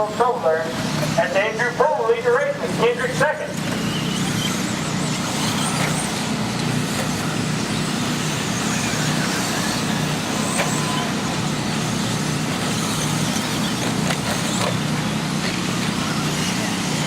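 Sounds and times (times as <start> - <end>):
rising motor whines: 2.6 - 17.0
rc trucks motors hissing on dirt: 3.3 - 17.0.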